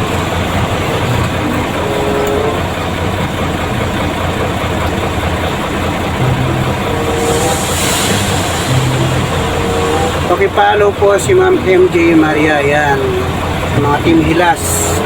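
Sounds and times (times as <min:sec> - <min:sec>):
truck engine humming from inside cab: 0:00.0 - 0:15.0.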